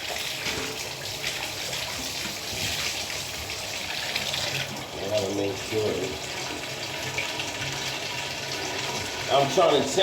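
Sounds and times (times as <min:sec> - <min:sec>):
tap water filling a bucket: 0:00.0 - 0:10.0.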